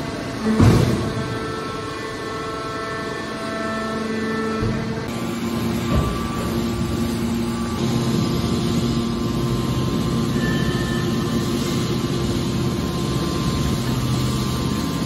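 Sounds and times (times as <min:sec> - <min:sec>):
hydraulic power unit humming: 0:00.0 - 0:15.0.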